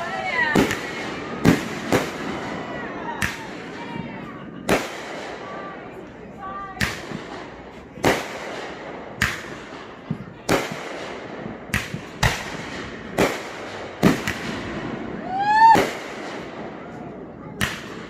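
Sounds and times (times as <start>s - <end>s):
fireworks bangs echoing: 0.0s - 6.0s, 6.6s - 18.0s.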